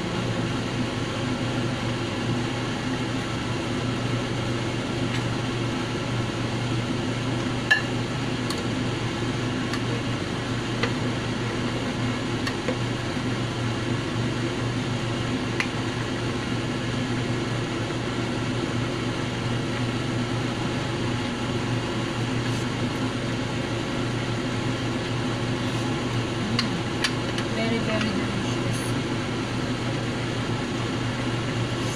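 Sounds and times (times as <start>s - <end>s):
machine hum: 0.0s - 31.9s.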